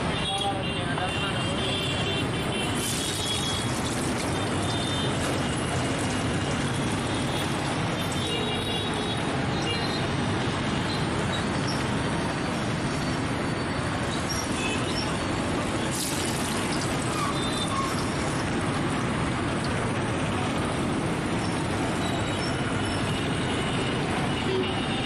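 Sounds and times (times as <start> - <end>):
road traffic hum: 0.0 - 25.0.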